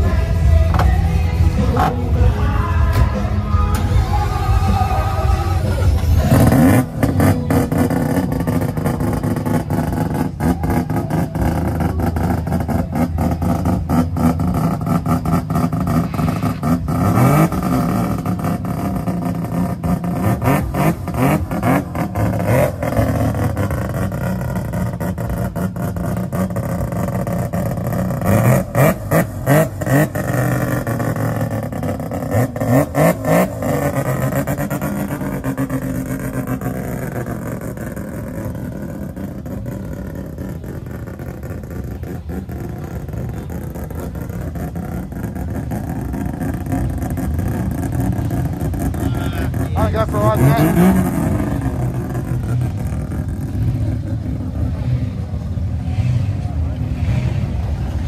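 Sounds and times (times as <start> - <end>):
car engine revving: 0.0 - 58.0
exhaust crackling and popping: 4.8 - 55.8.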